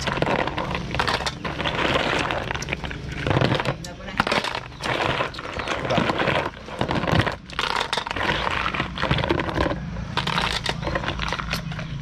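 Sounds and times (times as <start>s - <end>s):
snail shells clicking: 0.0s - 12.0s.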